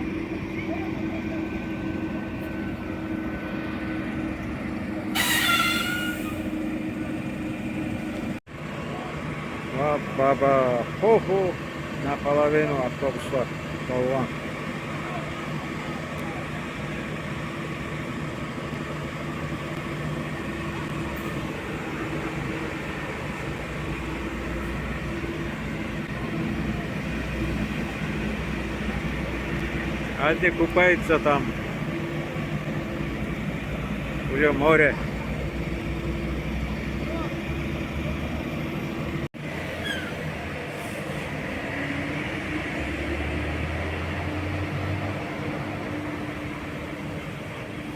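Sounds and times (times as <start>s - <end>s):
road noise: 0.0s - 47.9s
vehicle engine hum: 0.0s - 47.9s.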